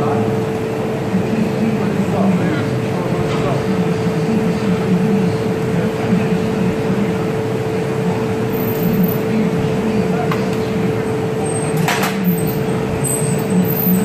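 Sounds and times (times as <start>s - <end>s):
constant hum: 0.0s - 14.0s
furnace and blowers roaring: 0.0s - 14.0s.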